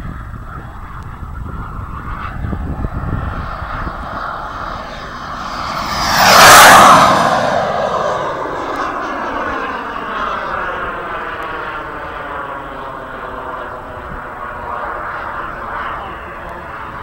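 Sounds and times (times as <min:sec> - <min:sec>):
model jet passing with whoosh: 0:00.0 - 0:17.0.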